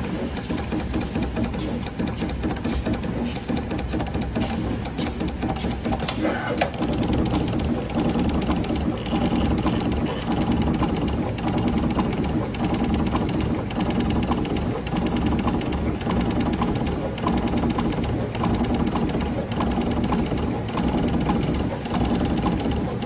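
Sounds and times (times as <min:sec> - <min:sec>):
low mechanical hum: 0:00.0 - 0:23.0
machine rapid clicking: 0:00.0 - 0:23.0.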